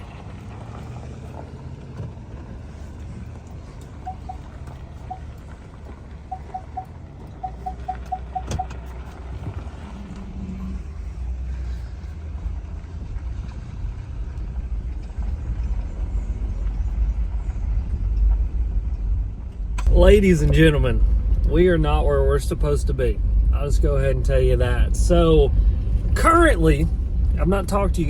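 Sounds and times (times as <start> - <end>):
truck road rumble: 0.0 - 28.0.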